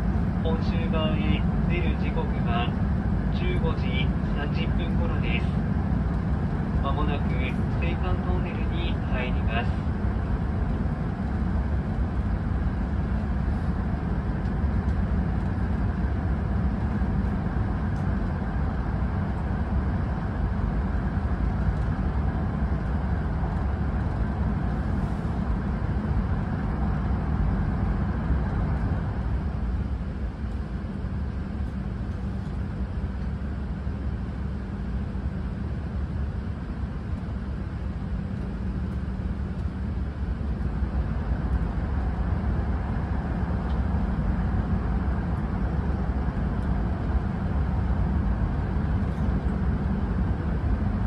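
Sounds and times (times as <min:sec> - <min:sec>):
train cabin rumble with hiss: 0:00.0 - 0:51.0.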